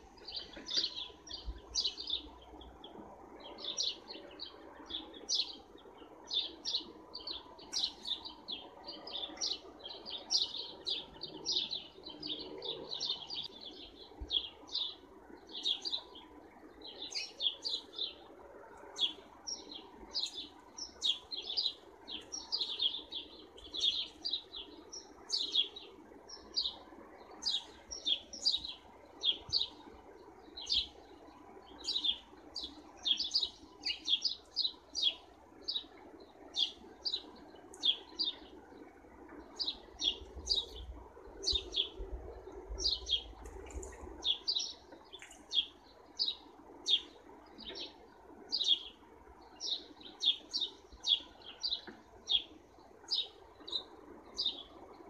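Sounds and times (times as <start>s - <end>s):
sparrows chirping: 0.0s - 55.0s.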